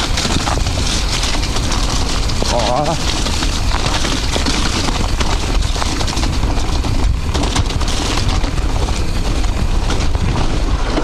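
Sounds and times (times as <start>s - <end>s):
bike clattering over rough ground: 0.0s - 11.0s
wind rumble on microphone: 0.0s - 11.0s.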